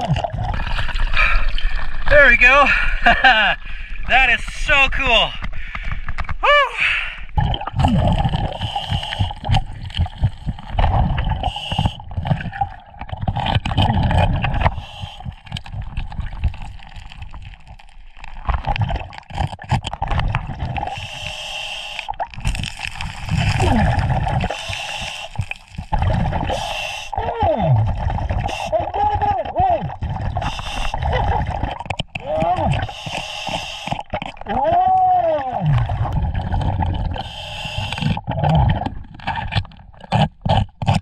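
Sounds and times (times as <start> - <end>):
underwater gurgling and bubbling: 0.0 - 2.1, 7.2 - 41.0.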